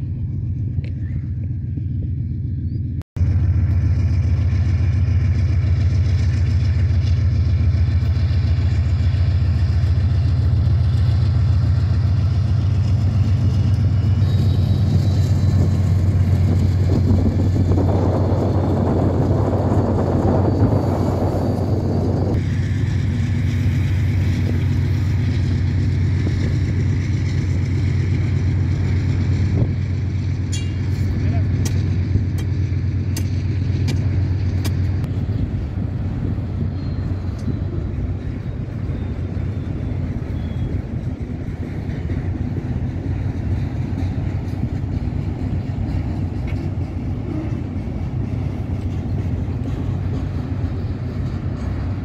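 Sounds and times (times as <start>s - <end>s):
diesel locomotive rumble: 0.0s - 52.0s
wheel and rail noise: 0.0s - 52.0s.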